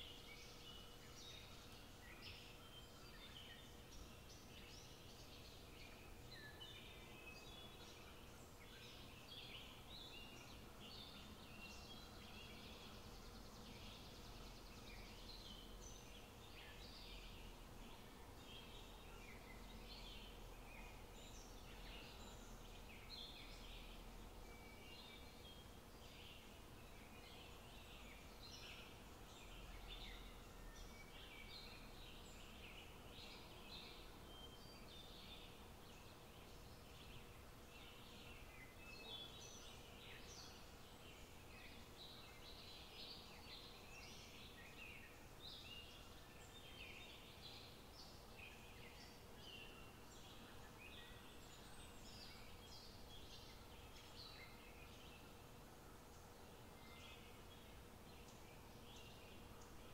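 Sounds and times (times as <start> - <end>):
faint steady hum: 0.0 - 59.9
small birds chirping: 0.0 - 59.9.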